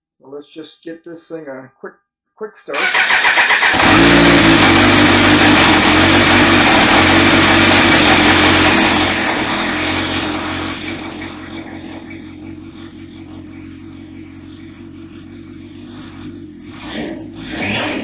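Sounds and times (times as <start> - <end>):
motorcycle engine starting and idling: 2.7 - 18.0.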